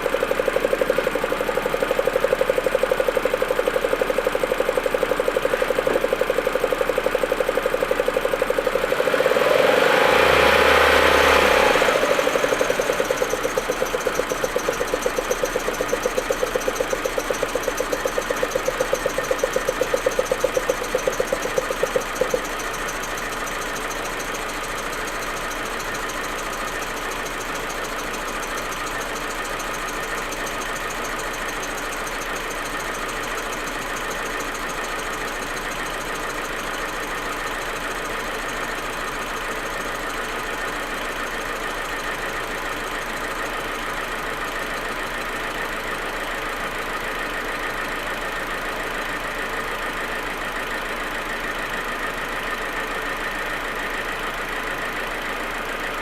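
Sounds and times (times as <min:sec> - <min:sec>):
car engine idling roughly: 0:00.0 - 0:56.0.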